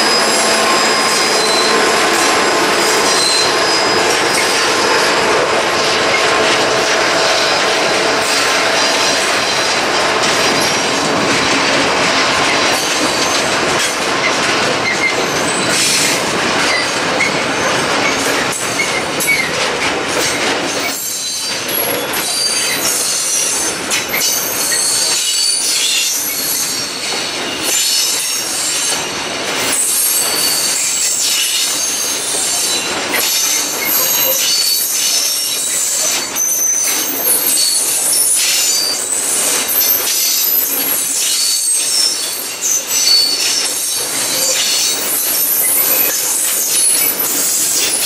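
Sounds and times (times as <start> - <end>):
freight train rumbling: 0.0 - 48.0
train wheels squealing: 0.0 - 48.0
wheels clicking over rail joints: 0.0 - 48.0.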